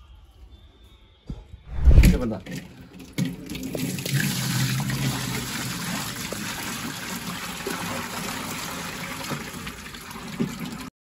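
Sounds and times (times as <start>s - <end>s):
water pouring and splashing: 1.9s - 10.9s.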